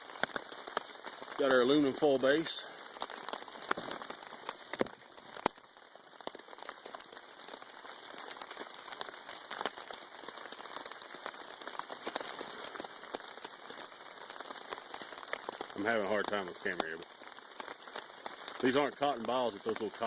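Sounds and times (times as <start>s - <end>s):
rain falling on a tarp: 0.0s - 20.0s.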